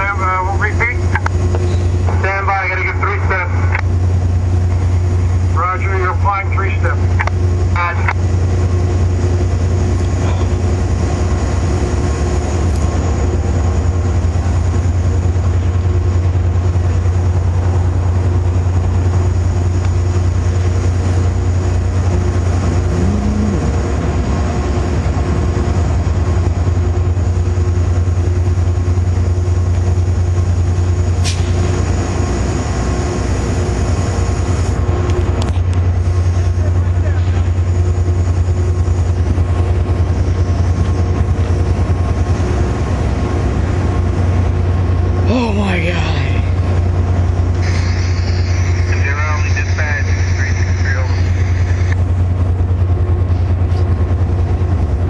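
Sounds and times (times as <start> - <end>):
locomotive idling drone: 0.0 - 55.0.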